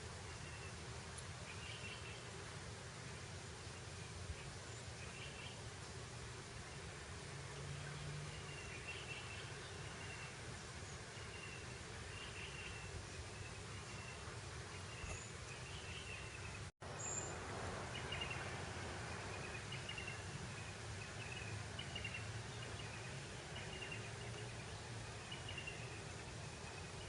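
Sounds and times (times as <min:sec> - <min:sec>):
breeze over grassland: 0:00.0 - 0:27.0.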